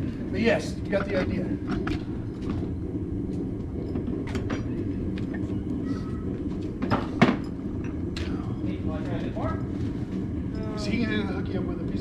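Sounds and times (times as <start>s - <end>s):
forge low rumble: 0.0s - 12.0s.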